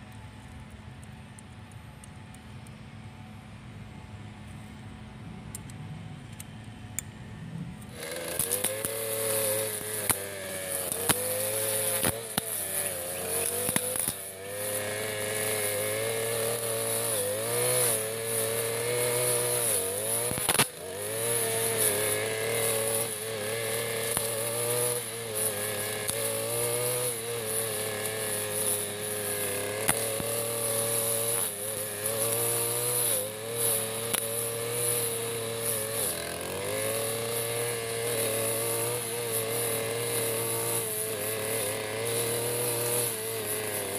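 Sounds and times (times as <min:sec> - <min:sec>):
blade cutting dense grass: 0:00.0 - 0:43.9
brush cutter engine running: 0:00.0 - 0:43.9.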